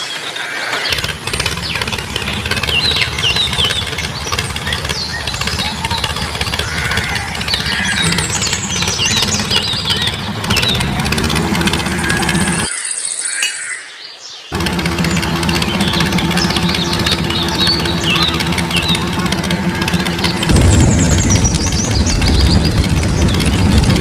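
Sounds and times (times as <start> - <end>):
small engine rattling: 0.6 - 12.7, 14.5 - 24.0.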